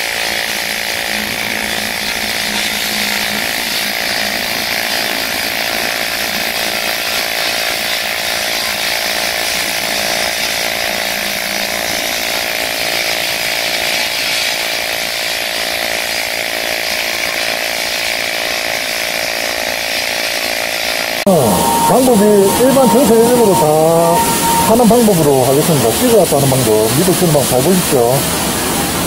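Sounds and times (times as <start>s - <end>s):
welding arc buzzing and hissing: 0.0s - 29.0s.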